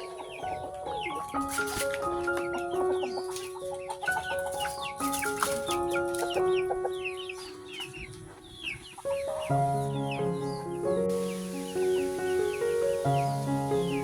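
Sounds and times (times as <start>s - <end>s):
chickens cheeping: 0.0s - 14.0s
music of slow held notes: 0.0s - 14.0s.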